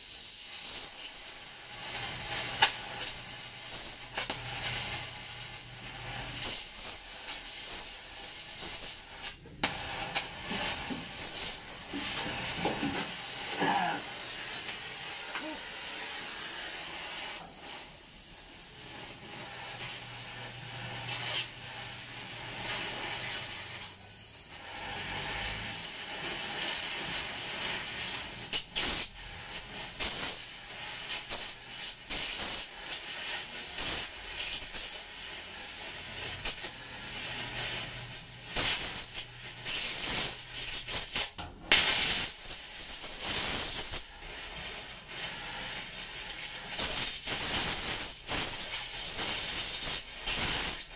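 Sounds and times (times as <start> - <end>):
cutting torch hissing: 0.0 - 50.9.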